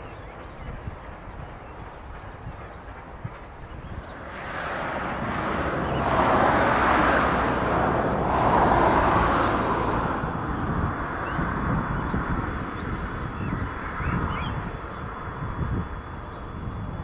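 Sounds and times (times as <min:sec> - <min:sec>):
steam locomotive exhaust rushing: 0:00.0 - 0:17.0.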